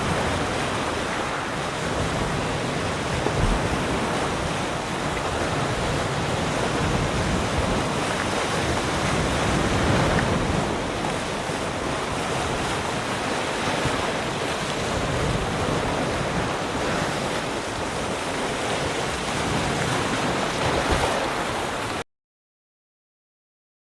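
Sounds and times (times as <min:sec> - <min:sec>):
wind buffeting microphone: 0:00.0 - 0:21.8
sea waves washing around rock: 0:00.0 - 0:22.0.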